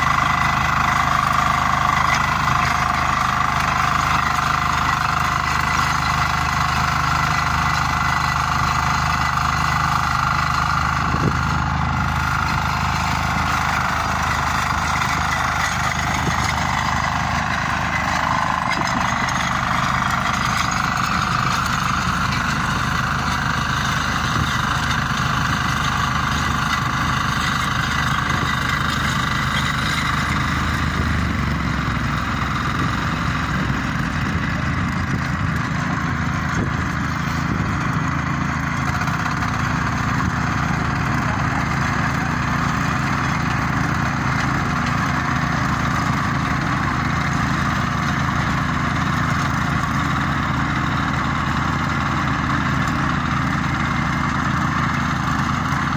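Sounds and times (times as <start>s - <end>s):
tiller engine running: 0.0s - 55.9s
tines churning soil: 0.0s - 55.9s.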